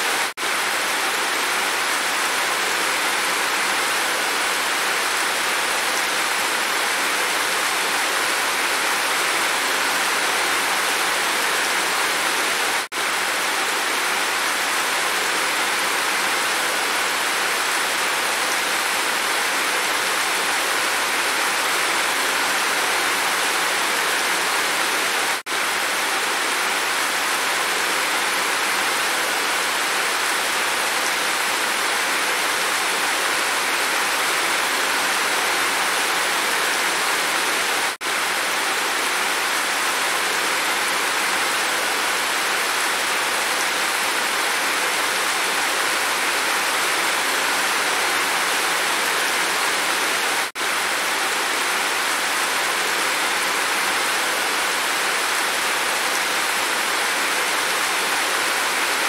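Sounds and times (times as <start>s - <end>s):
heavy rain pouring off roof: 0.0s - 59.0s.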